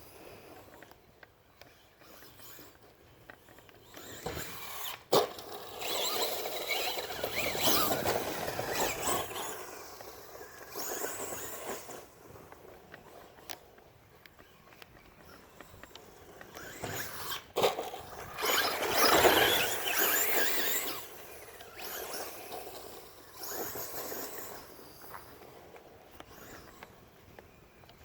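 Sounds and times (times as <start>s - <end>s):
rc truck motor and tyres: 0.0s - 28.0s.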